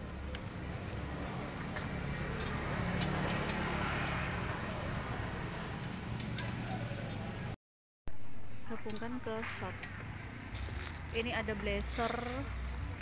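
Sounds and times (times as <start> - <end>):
steady outdoor hum: 0.0 - 13.0.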